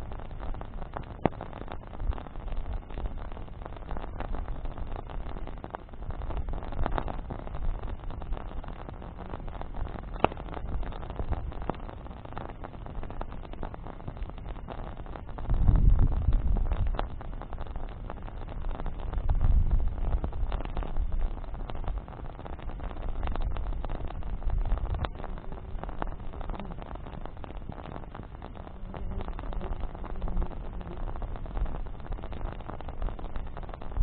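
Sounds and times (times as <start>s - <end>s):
campfire crackling and popping: 0.0s - 34.0s
low steady rumble: 0.0s - 34.0s.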